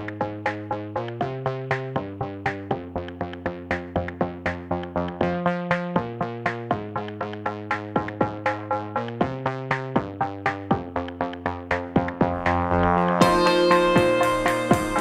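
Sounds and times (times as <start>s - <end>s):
electronic synthesizer music: 0.0s - 15.0s.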